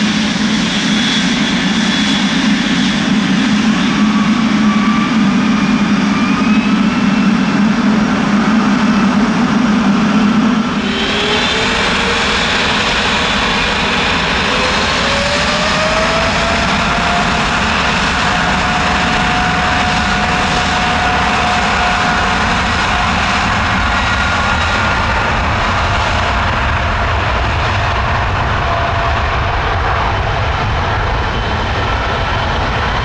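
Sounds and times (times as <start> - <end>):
high jet whine: 0.0 - 33.0
jet engines running: 0.0 - 33.0.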